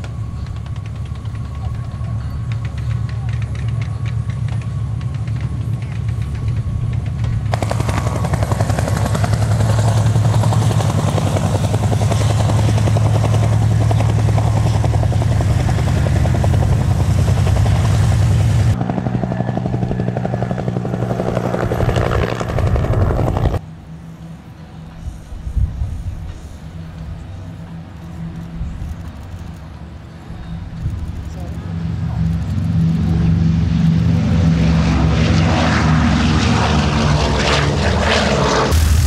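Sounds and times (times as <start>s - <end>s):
helicopter rotor beating: 0.0s - 39.0s
radial aircraft engines running: 0.0s - 39.0s.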